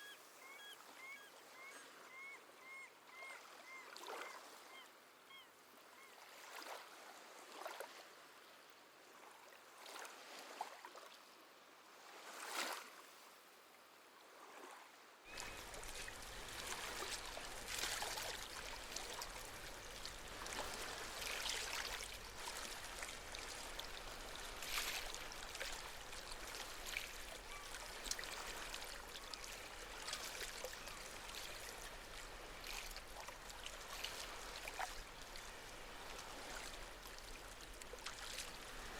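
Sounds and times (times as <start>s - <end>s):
small waves lapping on shore: 0.0s - 38.9s.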